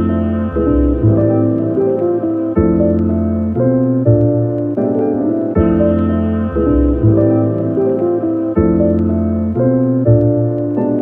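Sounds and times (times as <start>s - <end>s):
sustained keyboard chords: 0.0s - 11.0s.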